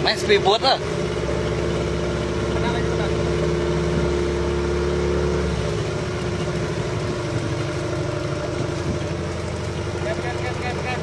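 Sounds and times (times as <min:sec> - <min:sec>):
motorboat engine humming: 0:00.0 - 0:11.0
water rushing along hull: 0:00.0 - 0:11.0.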